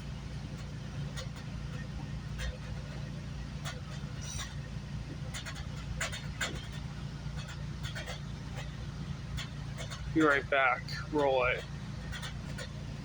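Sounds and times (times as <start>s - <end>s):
train clicks and rattles: 0.0s - 13.0s
train rumble from inside coach: 0.0s - 13.0s.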